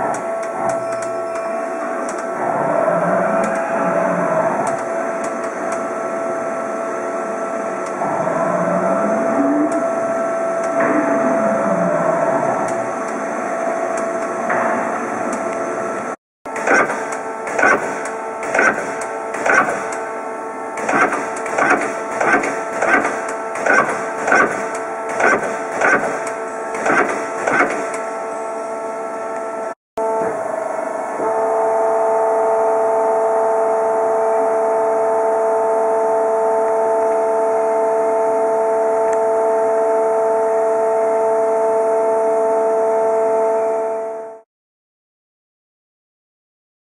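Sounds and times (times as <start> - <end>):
lathe mechanical whine: 0.0 - 44.4.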